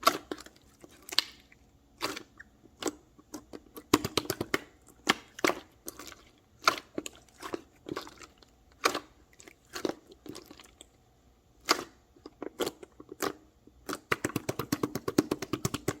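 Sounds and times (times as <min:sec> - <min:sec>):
soft material crunching and popping: 0:00.0 - 0:16.0.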